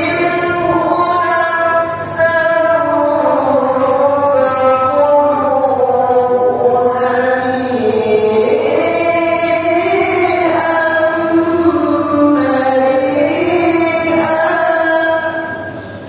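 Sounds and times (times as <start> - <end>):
man reciting melodically: 0.0 - 15.8.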